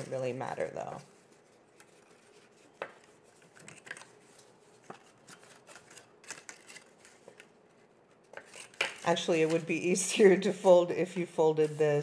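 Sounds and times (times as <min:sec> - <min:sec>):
paper rustling and ticking: 0:00.0 - 0:10.0.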